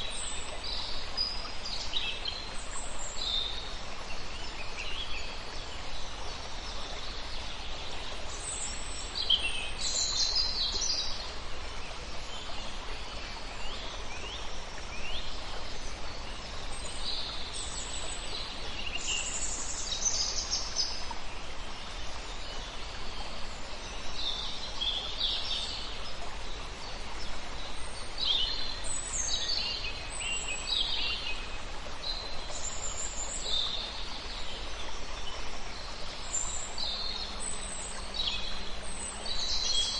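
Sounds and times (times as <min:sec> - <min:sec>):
steady background hiss: 0:00.0 - 0:39.9
wild birds singing and chirping: 0:00.0 - 0:39.9.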